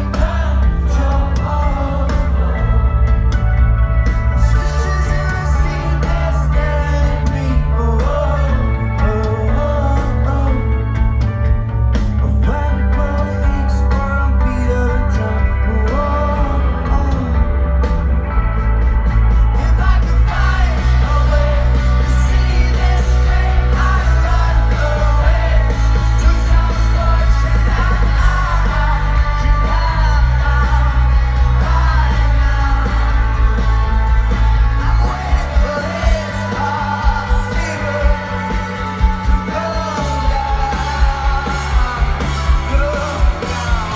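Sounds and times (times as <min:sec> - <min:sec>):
man singing: 0:00.0 - 0:03.0, 0:04.4 - 0:11.2, 0:12.2 - 0:18.0, 0:19.5 - 0:43.9
live rock band playing: 0:00.0 - 0:43.9.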